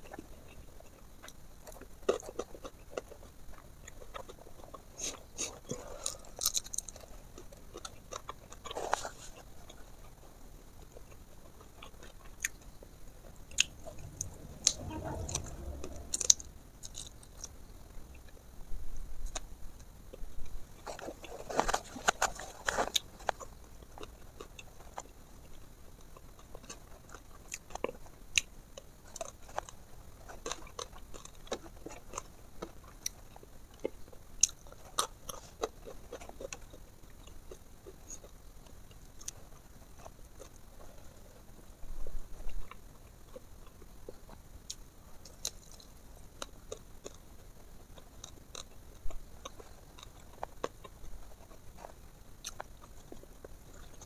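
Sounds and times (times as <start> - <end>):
person chewing and crunching: 0.0 - 18.4, 20.8 - 41.4, 42.4 - 54.0.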